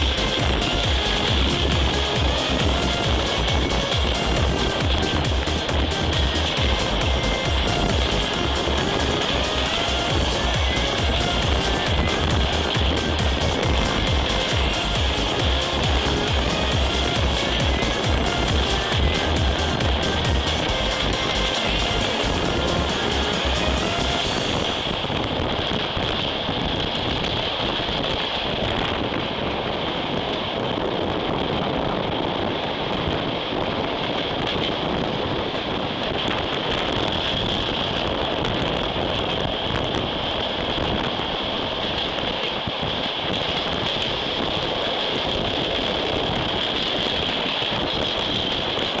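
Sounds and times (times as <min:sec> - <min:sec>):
rushing wind: 0:00.0 - 0:49.0.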